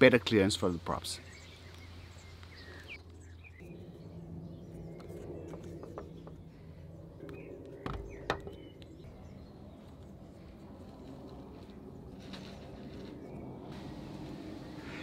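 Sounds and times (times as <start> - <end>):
birds chirping: 0.0 - 15.0
low steady hum: 0.9 - 15.0.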